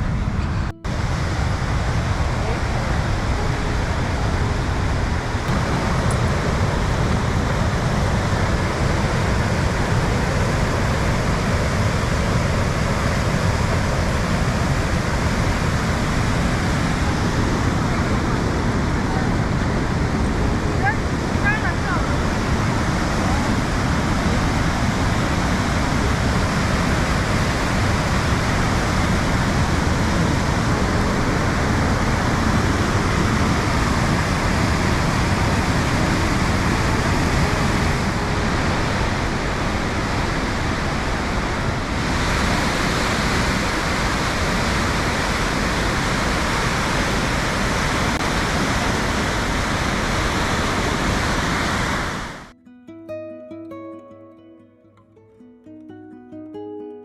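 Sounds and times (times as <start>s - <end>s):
waterfall rushing: 0.0s - 52.5s.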